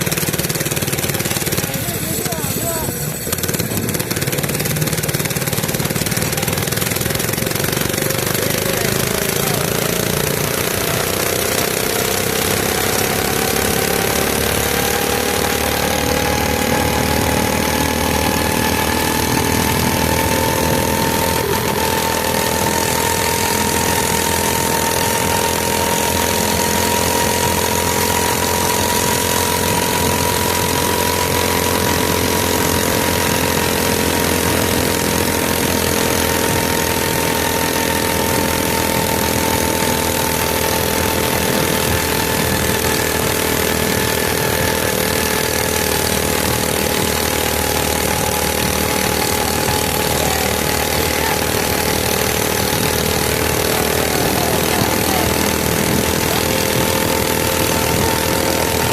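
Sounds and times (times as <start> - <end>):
mini bike engine running: 0.0 - 58.9.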